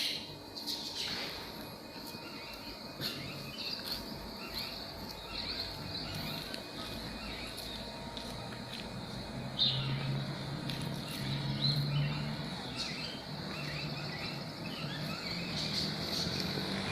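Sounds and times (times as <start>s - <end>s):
birds chirping: 0.0s - 16.9s
insect drone: 0.0s - 16.9s
low steady hum: 0.0s - 16.9s.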